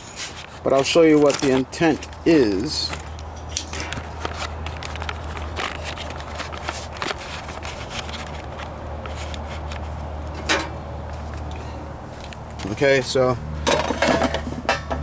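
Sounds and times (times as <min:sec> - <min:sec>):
handling clicks and scrapes: 0:00.0 - 0:11.6, 0:13.6 - 0:15.0.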